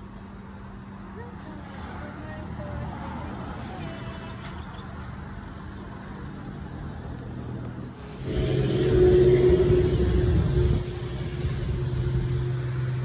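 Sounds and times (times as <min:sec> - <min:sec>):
road traffic rumble: 0:00.0 - 0:13.0
vehicle engine passing close: 0:01.6 - 0:13.0.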